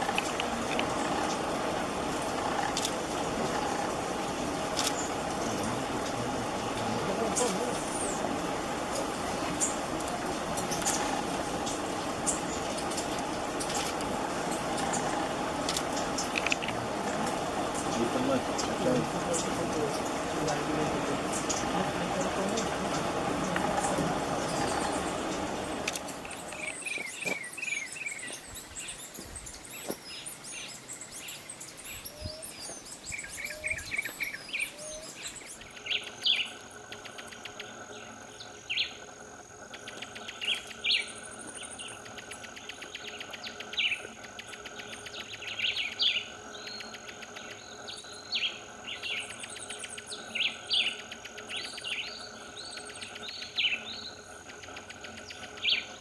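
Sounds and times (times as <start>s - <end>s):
birds chirping: 0.0s - 56.0s
insect-like high drone: 0.0s - 56.0s.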